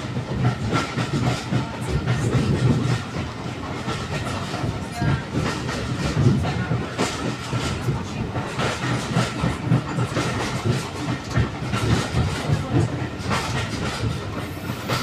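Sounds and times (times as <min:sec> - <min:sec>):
train rumble: 0:00.0 - 0:15.0
train wheels clicking on rail joints: 0:00.0 - 0:15.0.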